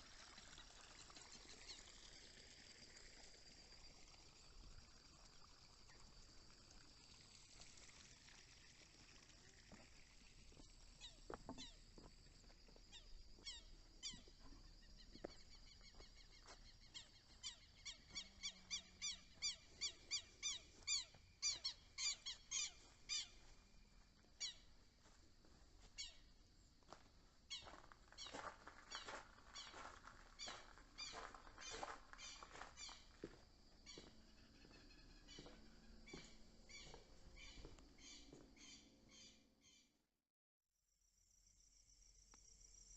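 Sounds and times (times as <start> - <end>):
crickets droning: 0.0 - 39.4, 41.0 - 42.9.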